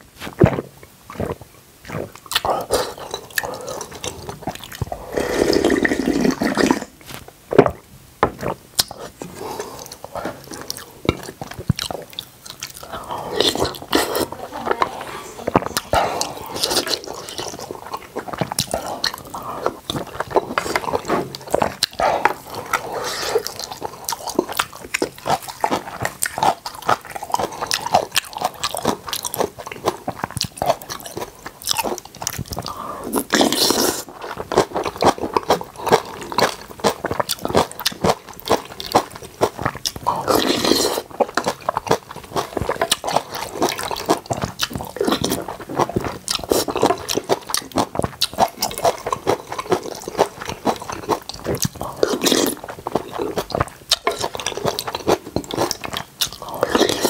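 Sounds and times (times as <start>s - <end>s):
chewing and biting: 0.2s - 5.5s, 6.6s - 14.9s, 15.5s - 57.0s.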